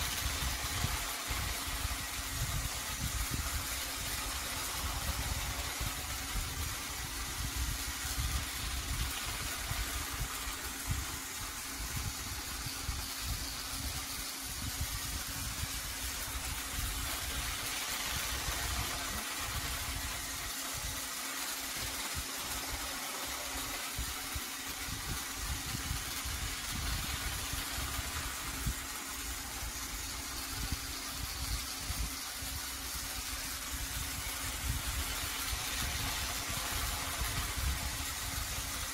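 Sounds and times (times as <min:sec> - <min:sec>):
toy train motor humming: 0:00.0 - 0:38.9.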